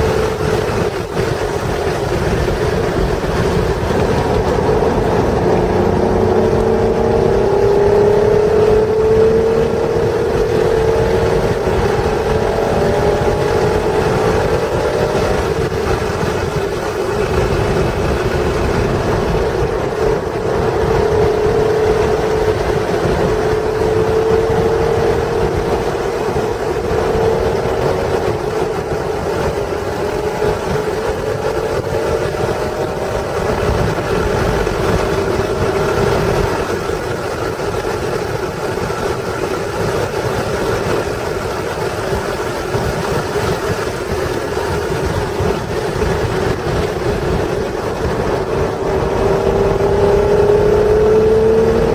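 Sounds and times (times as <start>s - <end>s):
car engine revving at speed: 0.0s - 51.9s
wind and road noise: 0.0s - 51.9s.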